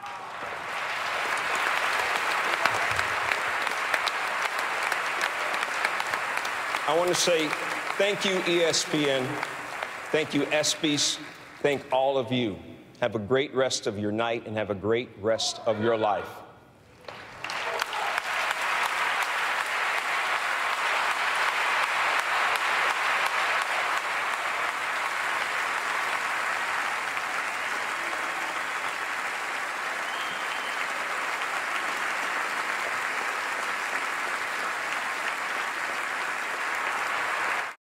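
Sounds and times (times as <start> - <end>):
large audience applauding: 0.0 - 11.8, 17.0 - 37.8.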